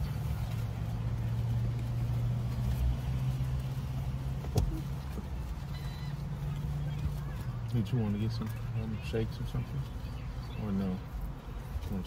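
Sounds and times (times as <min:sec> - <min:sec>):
car idling hum: 0:00.0 - 0:12.0.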